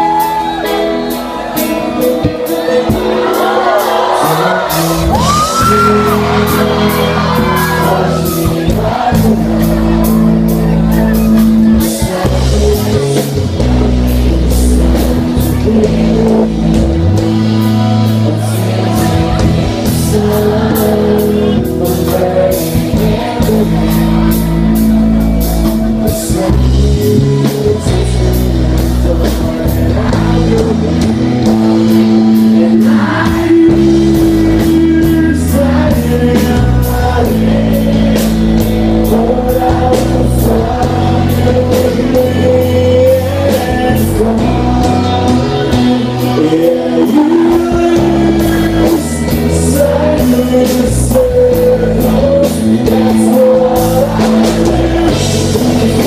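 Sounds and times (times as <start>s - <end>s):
live rock band playing: 0.0s - 56.0s
male lead vocal: 0.0s - 56.0s.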